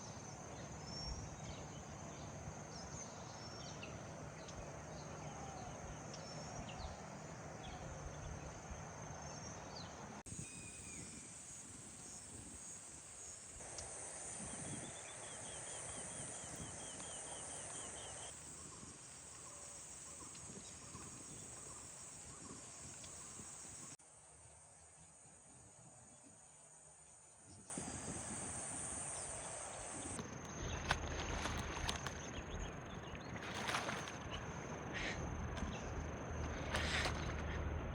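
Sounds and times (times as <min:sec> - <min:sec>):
insects chorus: 0:00.0 - 0:24.0, 0:24.7 - 0:37.9.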